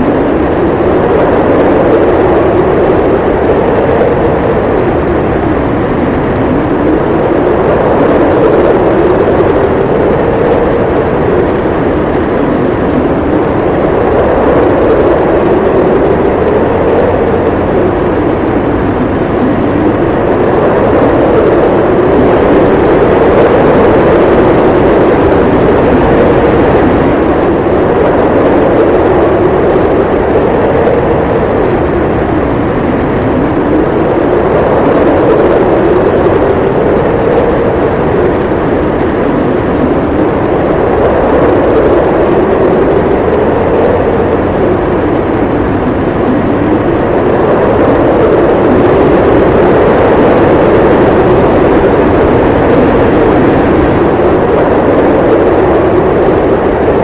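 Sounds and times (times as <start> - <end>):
blizzard wind howling: 0.0 - 57.0.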